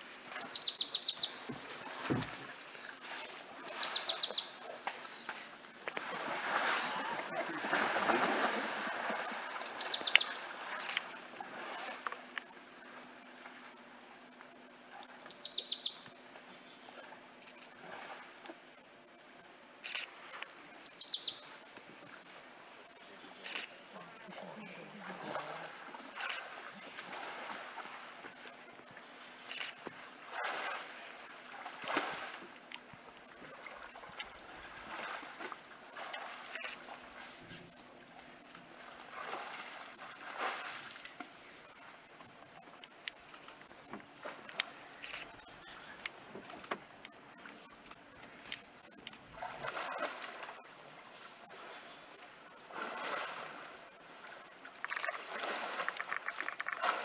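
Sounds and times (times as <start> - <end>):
lower insect tone: 0.0 - 57.0.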